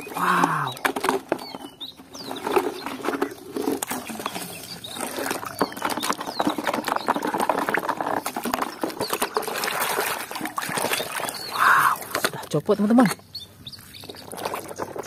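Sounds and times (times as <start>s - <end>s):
muddy water sloshing: 0.0s - 15.0s.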